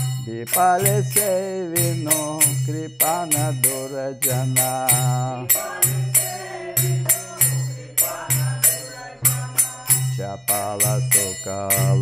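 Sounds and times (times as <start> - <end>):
metallic hand cymbals struck: 0.0 - 12.0.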